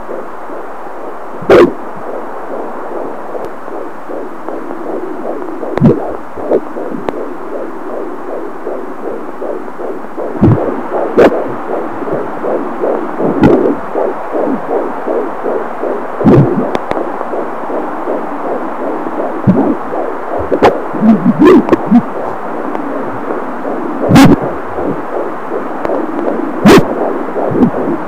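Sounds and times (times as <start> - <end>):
fetal heartbeat on doppler: 0.0 - 28.0
doppler thumps and crackles: 1.4 - 28.0.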